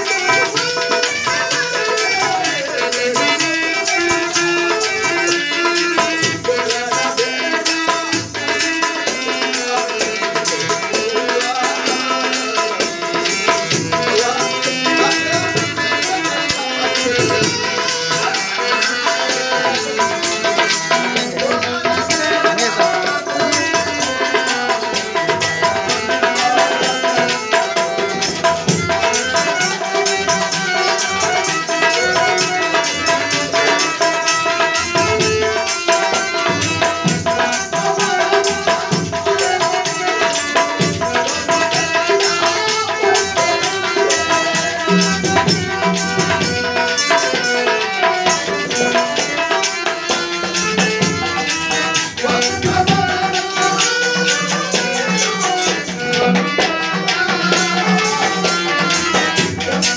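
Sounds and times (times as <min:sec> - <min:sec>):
hand drums: 0:00.0 - 0:59.9
harmonium melody: 0:00.0 - 0:59.9.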